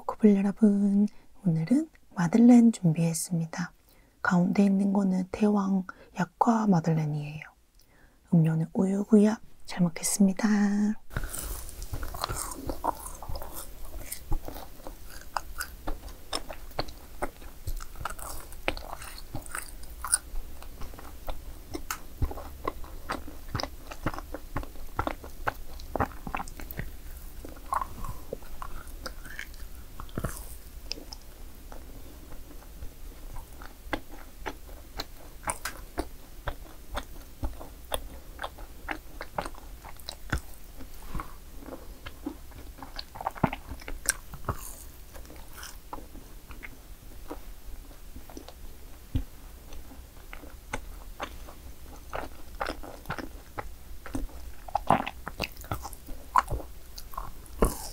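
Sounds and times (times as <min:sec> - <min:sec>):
person chewing crunchy cakes: 0:11.1 - 0:57.9.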